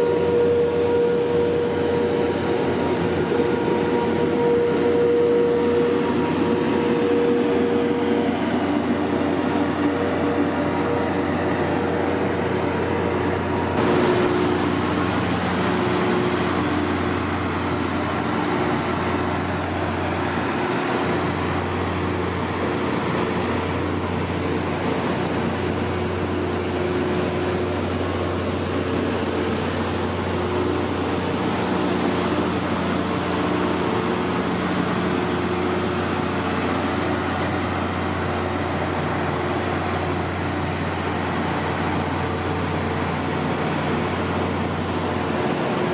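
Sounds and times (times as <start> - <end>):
train locomotive humming: 0.0 - 45.9.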